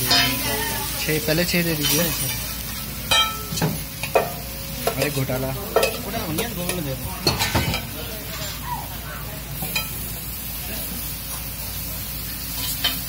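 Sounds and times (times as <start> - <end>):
food sizzling on griddle: 0.0 - 13.0.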